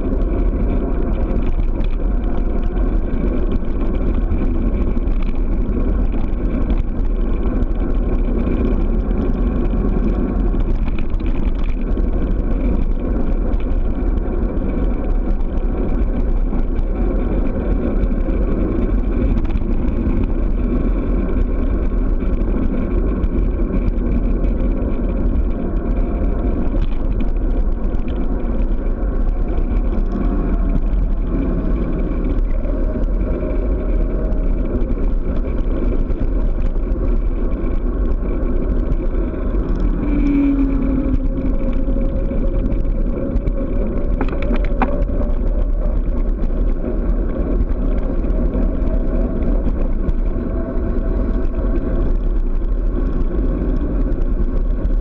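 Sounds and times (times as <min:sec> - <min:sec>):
tyre rolling on asphalt: 0:00.0 - 0:55.0
wind rushing over microphone: 0:00.0 - 0:55.0.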